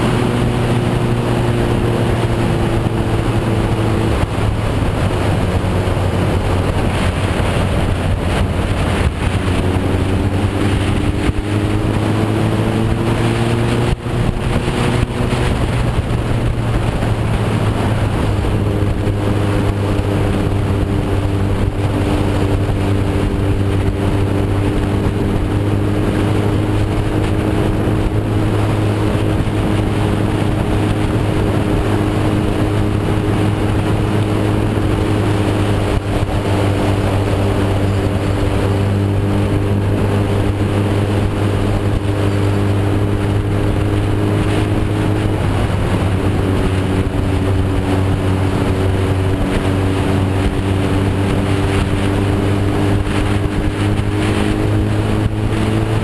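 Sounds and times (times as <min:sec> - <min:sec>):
motorcycle engine running: 0:00.0 - 0:56.0
wind over microphone: 0:00.0 - 0:56.0.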